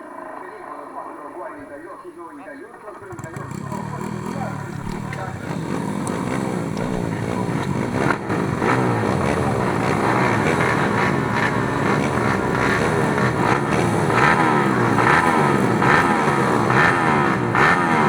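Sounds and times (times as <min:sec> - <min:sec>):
motorcycle engines revving: 0:03.0 - 0:18.0.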